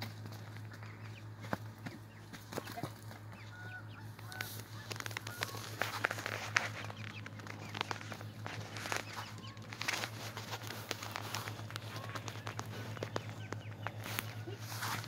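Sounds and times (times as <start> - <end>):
chickens calling: 0.0 - 15.0
feet scuffling on dirt: 0.0 - 15.0
steady low hum: 0.0 - 15.0.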